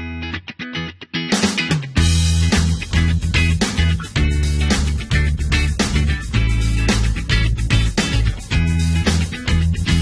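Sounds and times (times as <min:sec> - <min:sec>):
upbeat guitar and bass music: 0:00.0 - 0:10.0.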